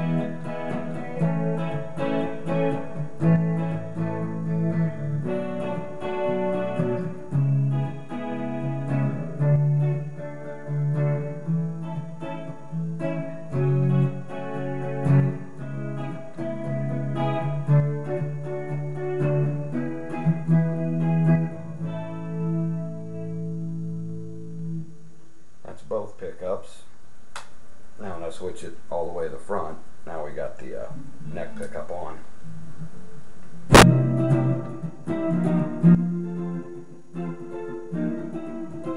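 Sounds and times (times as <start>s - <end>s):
electric guitar chords and notes: 0.0s - 25.2s, 32.4s - 38.9s.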